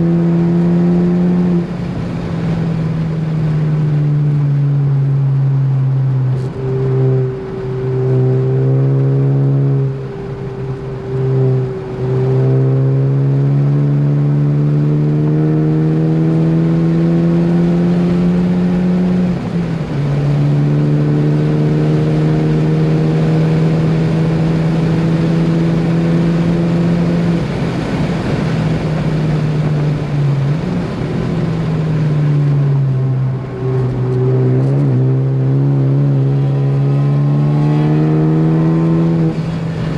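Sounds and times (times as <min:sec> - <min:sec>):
car engine at full throttle: 0:00.0 - 0:39.9.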